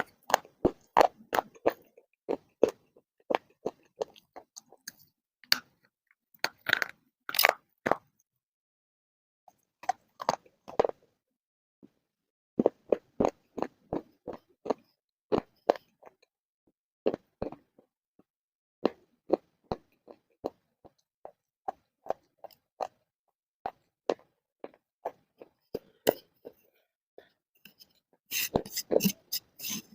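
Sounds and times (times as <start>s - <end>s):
person chewing crunchy clay: 0.0s - 8.2s, 9.5s - 11.1s, 12.6s - 16.3s, 17.1s - 17.9s, 18.8s - 29.9s.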